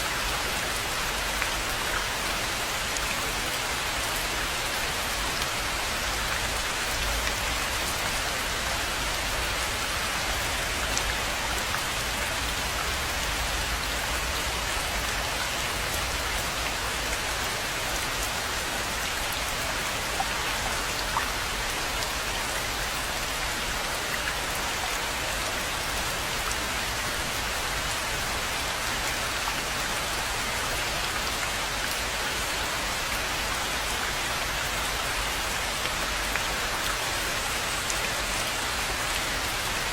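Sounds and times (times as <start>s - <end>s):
rain falling on pond: 0.0s - 39.9s.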